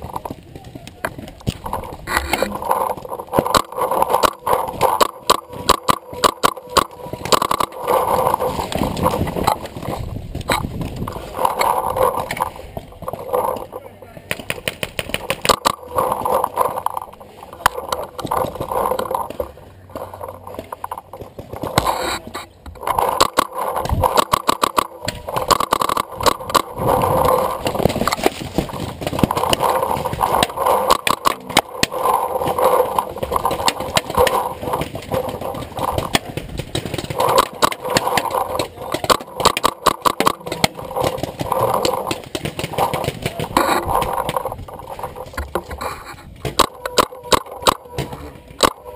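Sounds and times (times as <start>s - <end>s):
paintball markers firing: 0.0s - 48.9s.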